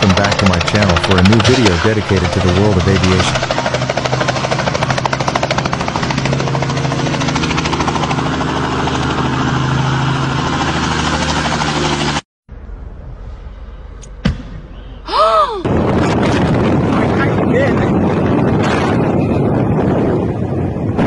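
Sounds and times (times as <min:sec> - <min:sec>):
helicopter rotor chopping: 0:00.0 - 0:12.2, 0:15.7 - 0:21.0.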